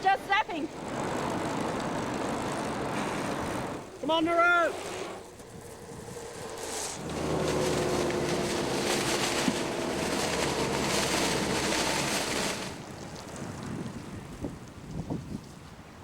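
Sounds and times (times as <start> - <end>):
faint engine hum: 0.0 - 16.0.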